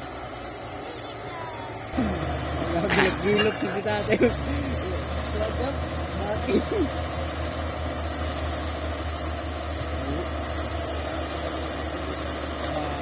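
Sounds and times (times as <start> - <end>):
bulldozer diesel engine rumbling: 0.0 - 13.0.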